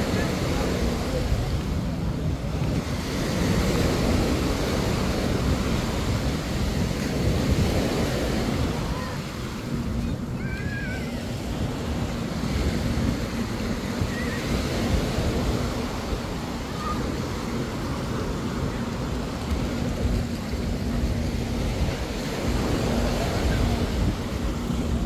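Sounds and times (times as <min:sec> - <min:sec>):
small waves washing on sand: 0:00.0 - 0:25.0
wind buffeting microphone: 0:00.0 - 0:25.0.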